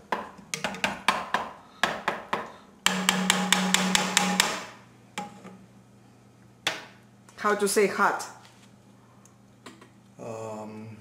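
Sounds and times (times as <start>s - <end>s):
steady hum: 0.1s - 11.0s.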